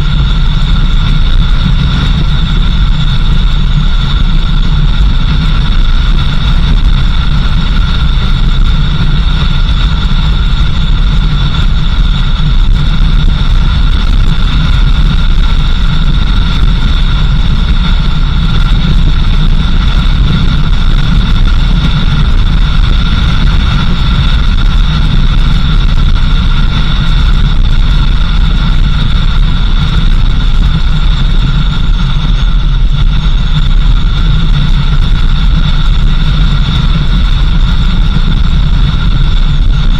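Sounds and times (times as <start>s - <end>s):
engine and road rumble: 0.0s - 39.9s
steady high whine: 0.0s - 39.9s.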